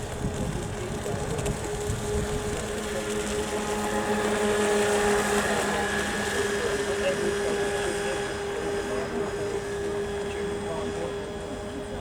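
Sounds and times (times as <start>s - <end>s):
model boat electric motor whine: 0.0s - 12.0s.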